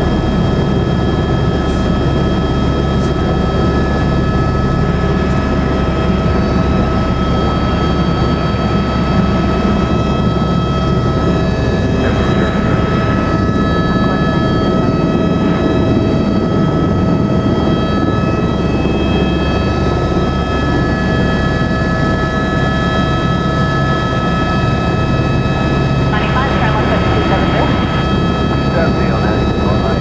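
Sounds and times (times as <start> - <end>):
helicopter engine and rotor: 0.0 - 30.0.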